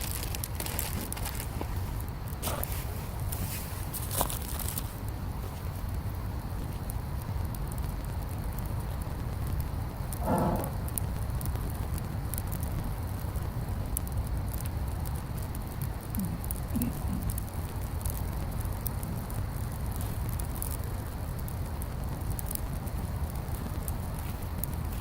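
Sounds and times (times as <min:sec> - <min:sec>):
bonfire crackling and popping: 0:00.0 - 0:25.0
steady low rumble: 0:00.0 - 0:25.0.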